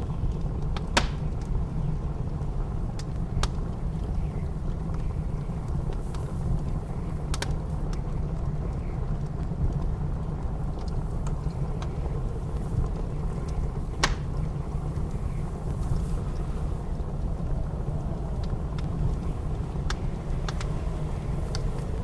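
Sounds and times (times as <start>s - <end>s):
blizzard wind rumbling: 0.0s - 22.0s
wood fire crackling: 0.0s - 22.0s.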